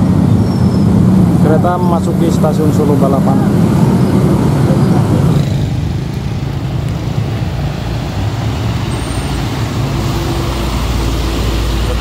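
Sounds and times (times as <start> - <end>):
motorcycles and cars: 0.0 - 12.0
truck engine passing: 0.0 - 12.0.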